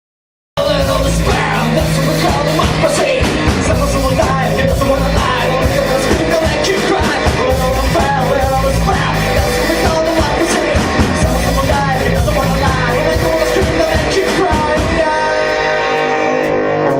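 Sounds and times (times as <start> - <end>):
rock band with drums and singing: 0.6 - 16.9.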